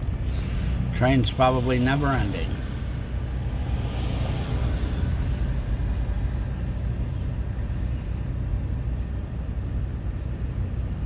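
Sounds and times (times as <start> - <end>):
freight train rumbling on rails: 0.0 - 11.0.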